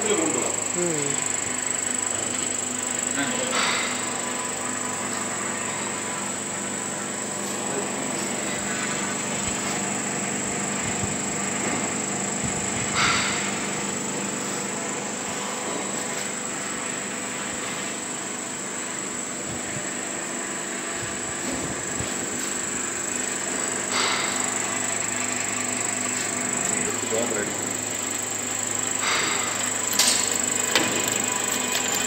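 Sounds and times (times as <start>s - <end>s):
machine motor hum with whine: 0.0s - 32.0s.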